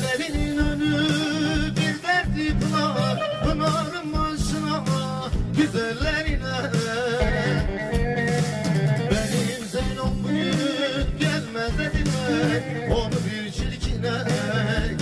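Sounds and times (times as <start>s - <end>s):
man singing through pa: 0.0s - 8.5s, 9.1s - 15.0s
steady percussion beat: 0.0s - 15.0s.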